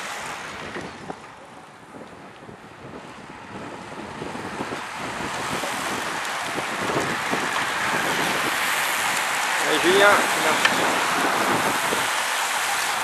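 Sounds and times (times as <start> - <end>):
bicycles riding past: 0.0 - 13.0.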